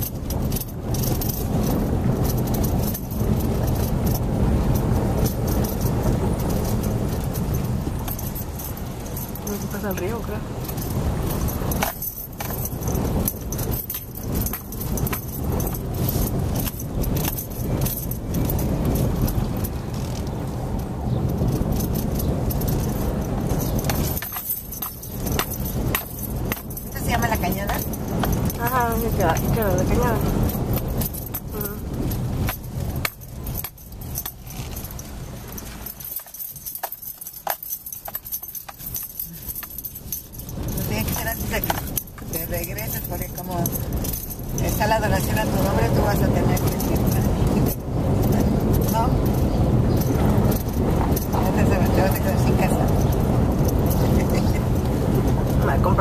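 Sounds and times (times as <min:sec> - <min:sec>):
rattling and jingling: 0:00.0 - 0:56.0
tyres rumbling on cobblestones: 0:00.0 - 0:56.0.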